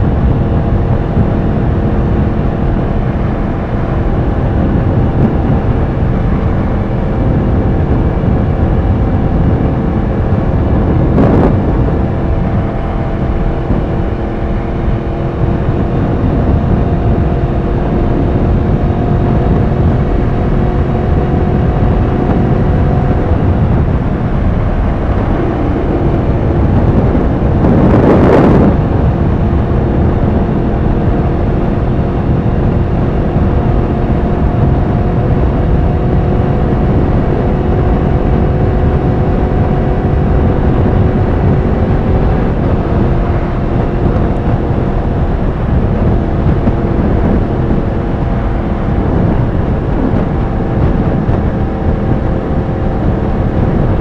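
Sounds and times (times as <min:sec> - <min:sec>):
loud whoosh: 0:00.0 - 0:54.0
motorcycle engine cruising: 0:00.0 - 0:54.0
wind rush: 0:00.0 - 0:54.0.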